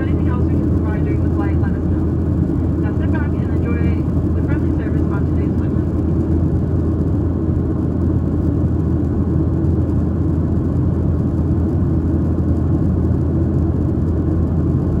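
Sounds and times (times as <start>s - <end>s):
jet engines rumbling: 0.0s - 15.0s
rushing air in cabin: 0.0s - 15.0s.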